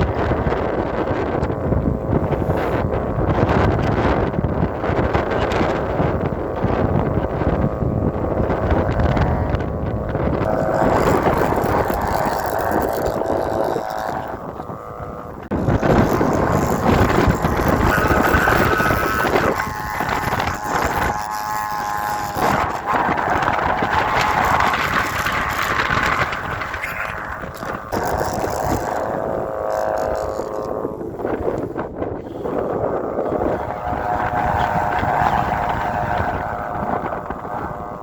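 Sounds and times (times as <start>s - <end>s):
kite hummer droning: 0.0s - 38.0s
wind buffeting microphone: 0.0s - 38.0s.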